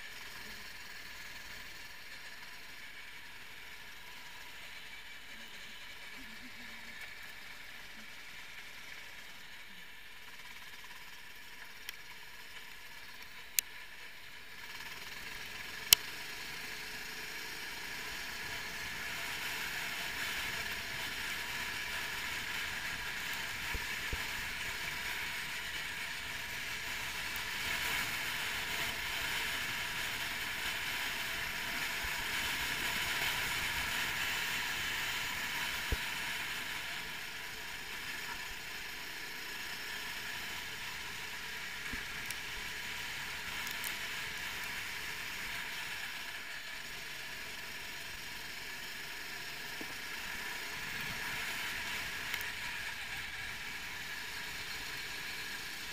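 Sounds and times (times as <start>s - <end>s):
kart engine drone: 0.0s - 55.9s
road noise: 0.0s - 55.9s.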